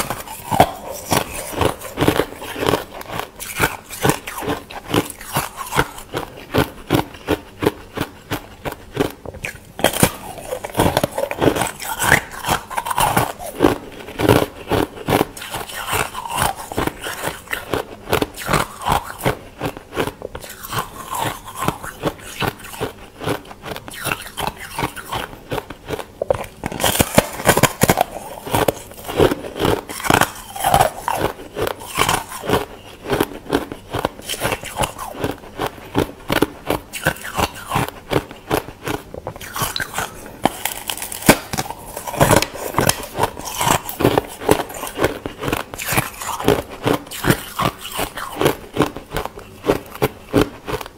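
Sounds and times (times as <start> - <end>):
ice crunching while chewed: 0.0 - 50.9.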